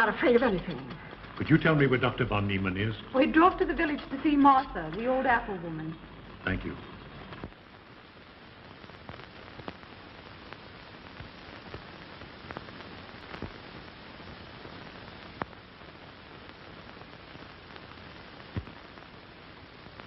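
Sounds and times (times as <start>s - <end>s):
film soundtrack hiss: 0.0s - 20.0s.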